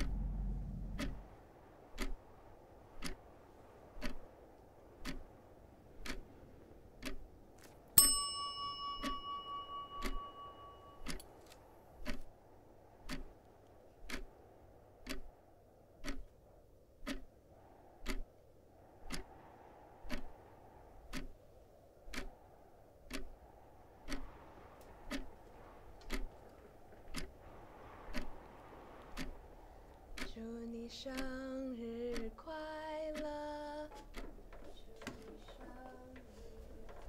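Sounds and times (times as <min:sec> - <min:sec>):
clock ticking: 0:00.0 - 0:07.4, 0:08.0 - 0:11.3, 0:12.0 - 0:18.4, 0:19.0 - 0:19.3, 0:20.0 - 0:37.0
faint background hiss: 0:00.0 - 0:37.0.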